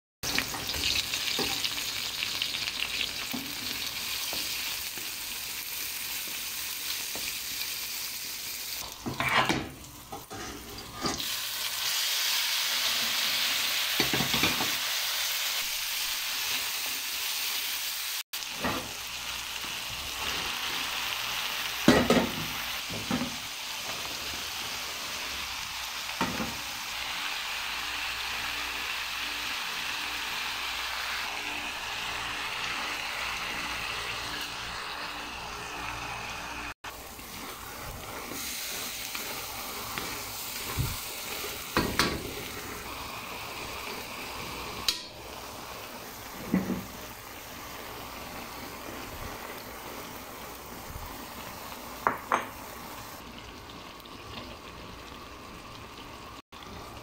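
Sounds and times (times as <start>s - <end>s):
vegetables sizzling in oil: 0.2s - 57.0s.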